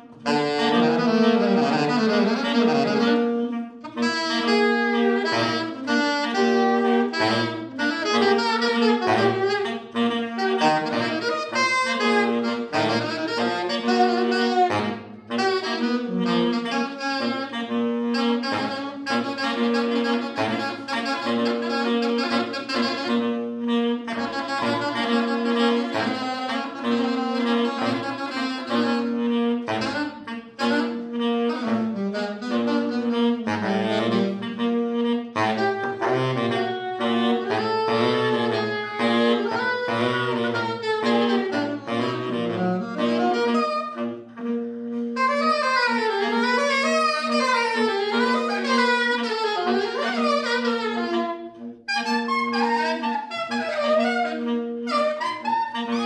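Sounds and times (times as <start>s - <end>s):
saxophone holding low note: 0.0s - 56.0s
saxophone playing busy lines: 0.0s - 56.0s.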